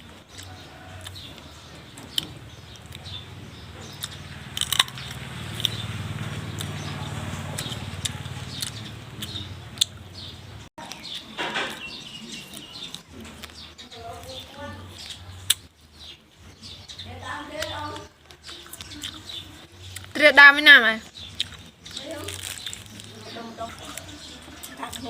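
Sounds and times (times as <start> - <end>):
person chewing crunchy fruit: 0.0 - 10.1, 10.8 - 14.3, 14.9 - 15.8, 17.6 - 20.2, 21.1 - 25.0.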